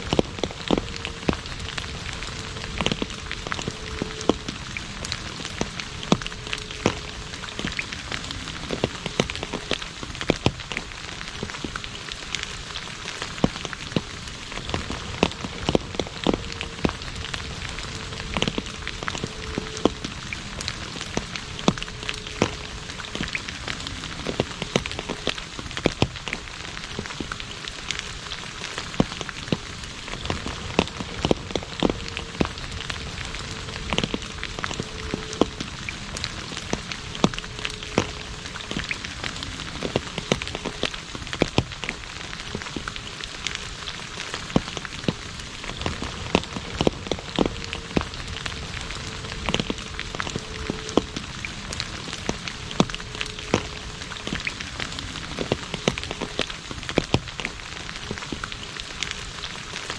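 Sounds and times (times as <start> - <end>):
rain on asphalt road: 0.0 - 59.9
sharp raindrop hits: 0.0 - 59.9.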